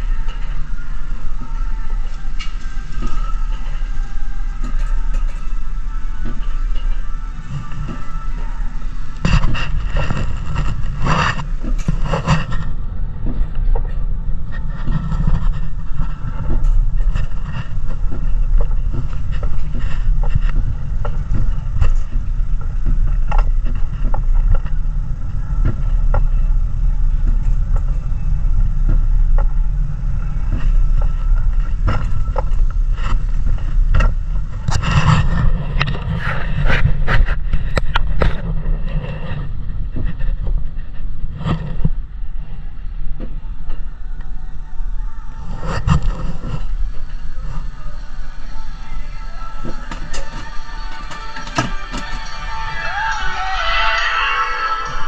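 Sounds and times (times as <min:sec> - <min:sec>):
sled wheels rumbling on rails: 0:00.0 - 0:55.0.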